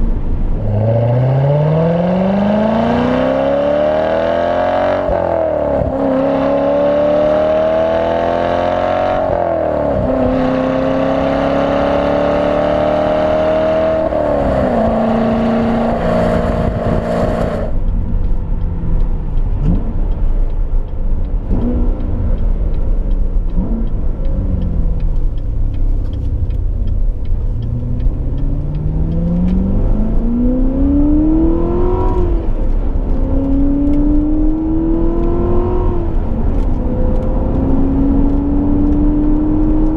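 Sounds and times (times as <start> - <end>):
car engine accelerating: 0.0 - 39.9
low road rumble: 0.0 - 39.9.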